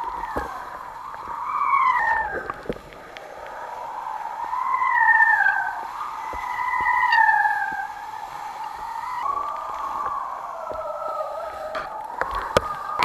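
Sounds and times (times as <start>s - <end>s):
board slapping waves: 0.0s - 13.0s
water wash: 0.0s - 13.0s
wind whistling on kite rig: 0.0s - 13.0s.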